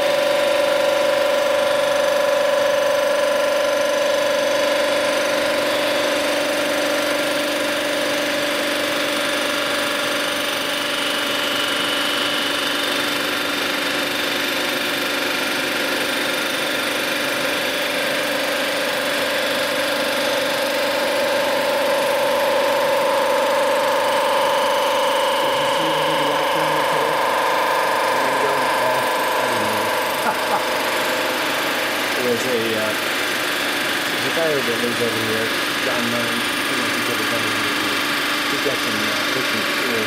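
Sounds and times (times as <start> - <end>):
resurfacing machine whining hum: 0.0 - 40.0.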